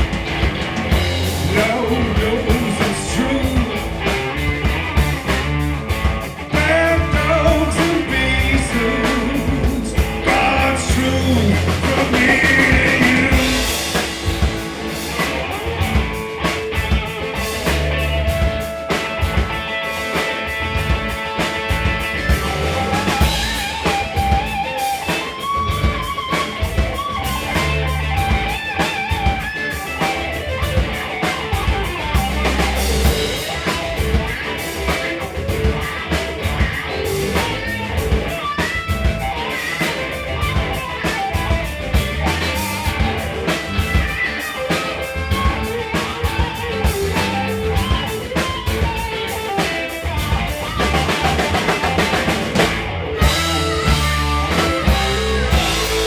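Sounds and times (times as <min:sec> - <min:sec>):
bass guitar: 0:00.0 - 0:56.0
drum kit steady beat: 0:00.0 - 0:56.0
electric guitar lines: 0:00.0 - 0:56.0.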